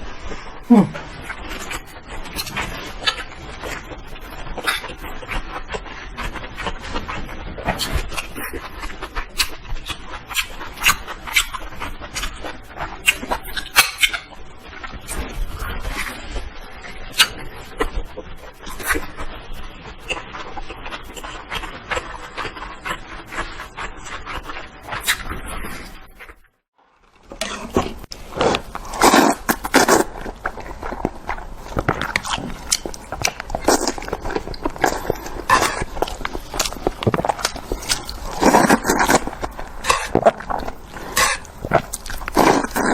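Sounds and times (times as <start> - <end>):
mouth smacks and chewing: 0.8 - 26.0, 27.2 - 42.9.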